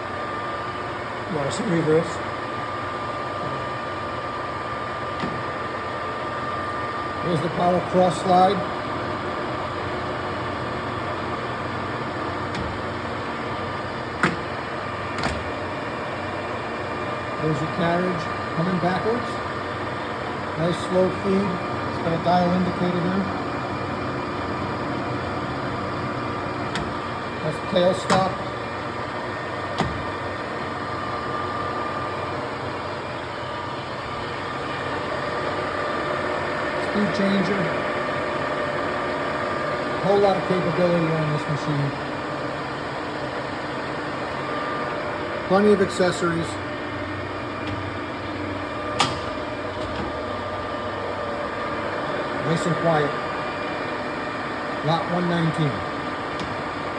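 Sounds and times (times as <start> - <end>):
faint steady whine: 0.0 - 56.9
lathe running with steady whir: 0.0 - 56.9.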